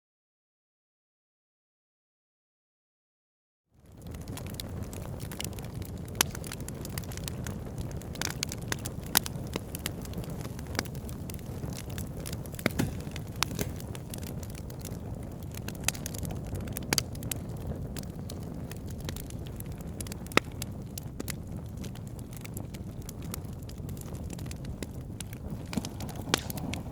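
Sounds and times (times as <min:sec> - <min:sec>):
fire crackling and popping: 0:03.8 - 0:26.9.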